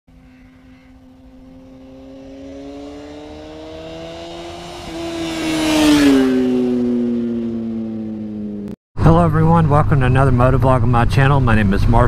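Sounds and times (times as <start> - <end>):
motorcycle engine approaching: 0.1 - 12.0.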